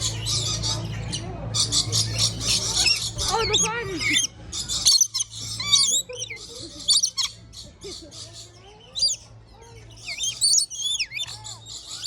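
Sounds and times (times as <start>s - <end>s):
parrots squawking: 0.0s - 9.3s, 9.9s - 12.0s.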